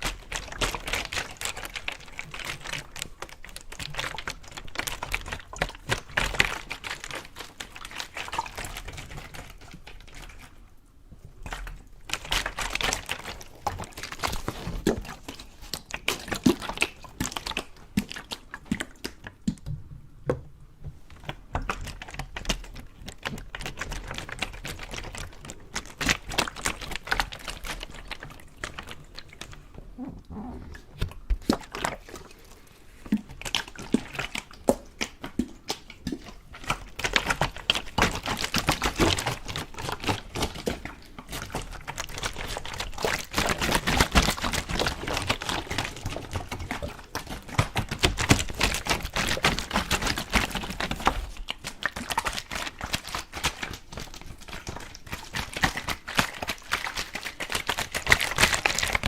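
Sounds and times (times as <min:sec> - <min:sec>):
water clicks and splashes: 0:00.0 - 0:10.6, 0:11.2 - 0:59.0.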